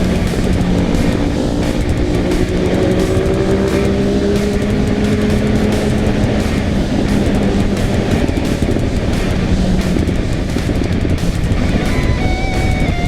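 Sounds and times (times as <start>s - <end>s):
motorcycle engine accelerating: 0.0s - 13.0s
wind rumble on microphone: 0.0s - 13.0s.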